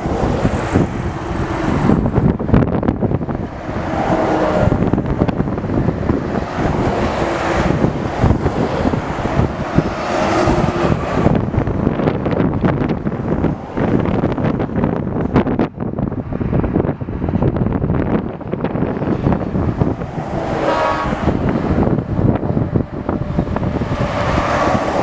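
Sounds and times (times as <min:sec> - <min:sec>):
heavy trucks driving past: 0:00.0 - 0:25.0.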